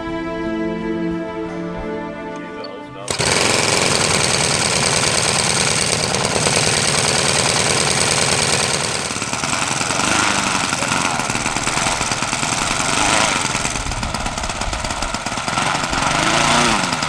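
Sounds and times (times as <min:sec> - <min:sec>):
model aircraft engine running: 0:03.0 - 0:17.0.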